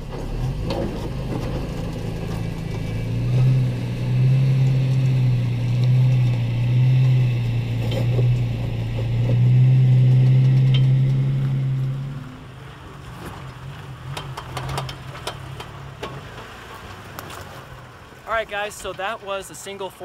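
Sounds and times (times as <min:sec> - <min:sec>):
truck engine pulling at low revs: 0:00.0 - 0:18.3.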